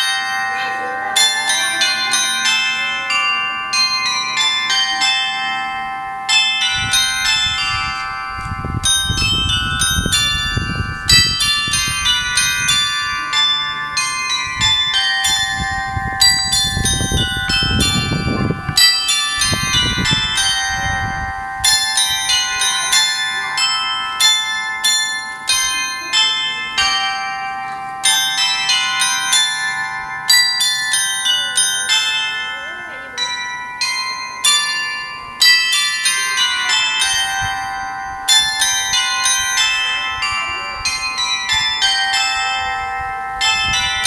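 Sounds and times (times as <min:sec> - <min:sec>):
small bells playing a tune: 0:00.0 - 0:44.0.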